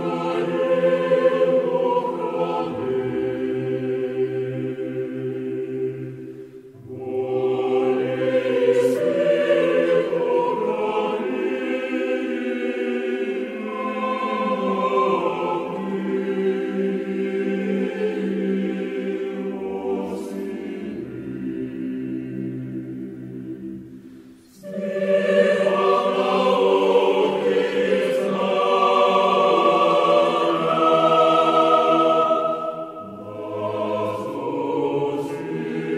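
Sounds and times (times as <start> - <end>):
choir singing slow chords: 0.0 - 35.9.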